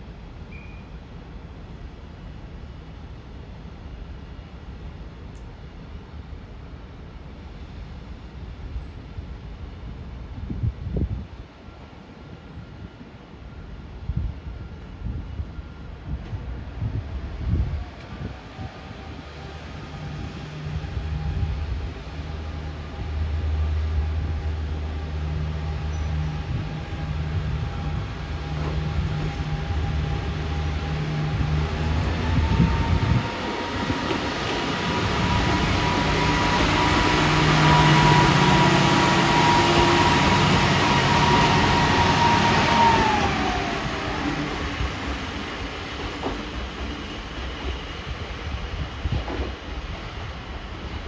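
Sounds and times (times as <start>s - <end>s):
wheels rumbling on rail: 0.0s - 51.0s.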